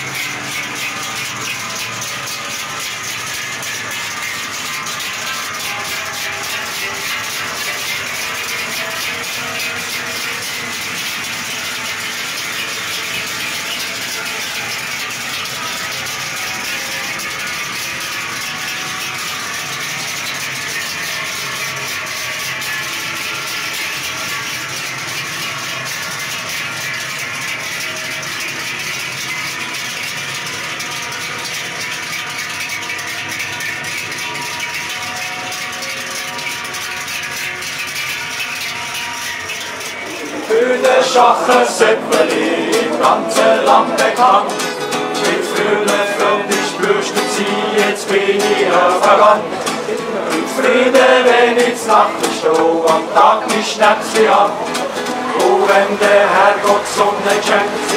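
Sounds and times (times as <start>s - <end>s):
cowbells clanging: 0.0s - 57.9s.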